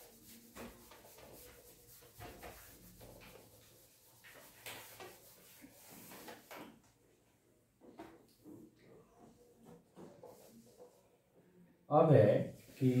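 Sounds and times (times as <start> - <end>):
cloth wiping whiteboard: 0.0 - 6.8, 8.1 - 11.2, 12.4 - 13.0.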